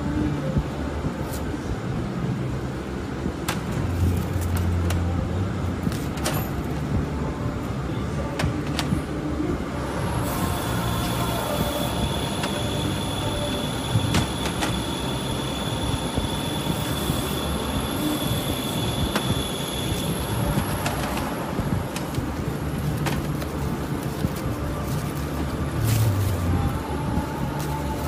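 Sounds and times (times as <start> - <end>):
high-pitched steady whine: 0.0 - 28.0
machinery hum: 0.0 - 28.0.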